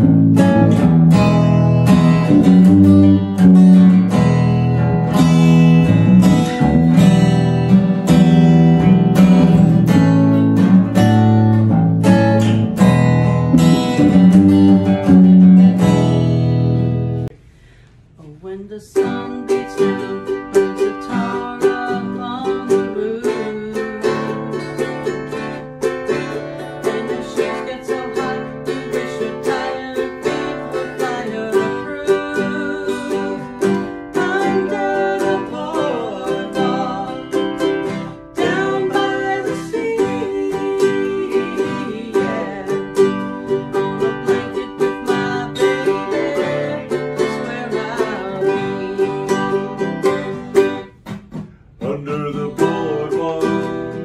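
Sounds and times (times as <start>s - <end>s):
ukulele strumming: 0.0s - 17.6s, 18.3s - 54.0s
acoustic guitar strumming: 0.0s - 17.9s, 18.7s - 54.0s.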